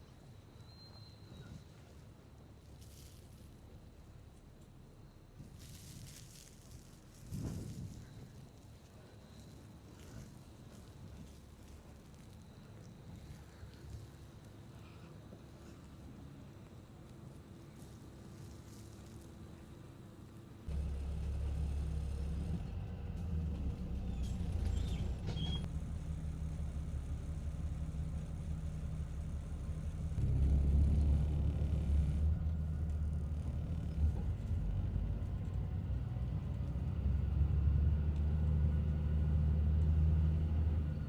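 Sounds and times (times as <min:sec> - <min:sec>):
bus engine rumble: 0:00.0 - 0:41.0.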